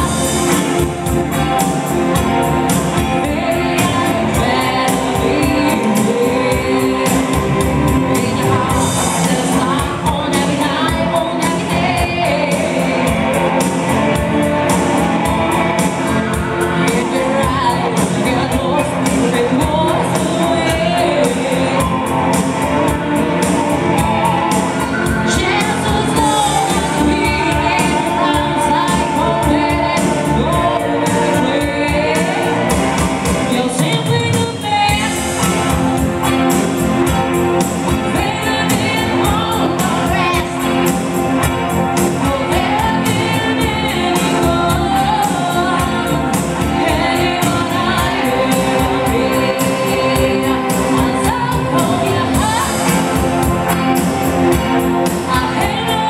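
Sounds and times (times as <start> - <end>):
guitar: 0.0 - 56.0
woman singing into a microphone: 2.9 - 35.8, 37.9 - 41.0, 42.0 - 53.4, 54.6 - 56.0.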